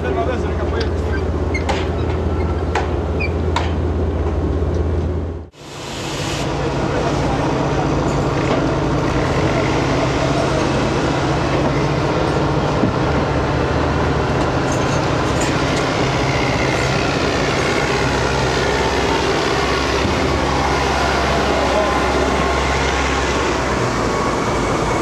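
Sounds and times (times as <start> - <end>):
heavy engine droning: 0.0 - 25.0.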